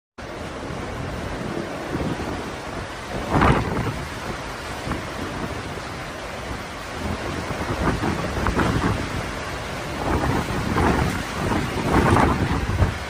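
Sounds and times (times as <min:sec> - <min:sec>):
steady rain: 0:00.2 - 0:13.0
wind: 0:00.2 - 0:13.0.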